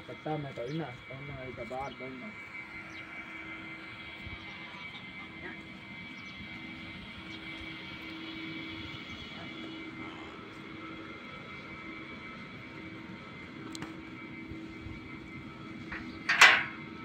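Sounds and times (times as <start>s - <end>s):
machine drone with hum: 0.0s - 17.0s.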